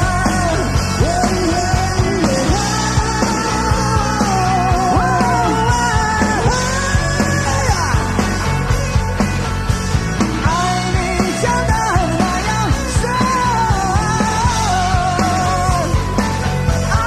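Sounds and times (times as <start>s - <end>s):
bass guitar: 0.0s - 17.0s
bending lead melody: 0.0s - 17.0s
rock band playing: 0.0s - 17.0s.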